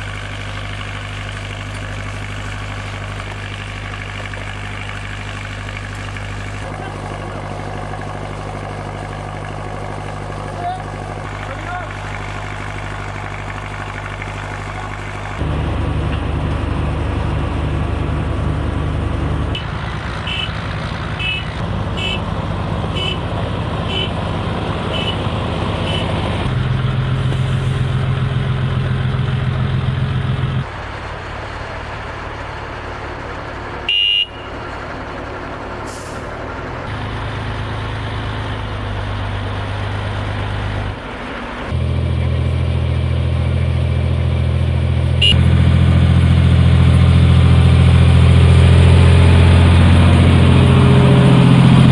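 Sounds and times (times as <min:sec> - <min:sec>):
diesel truck engine humming: 0:00.0 - 0:51.9.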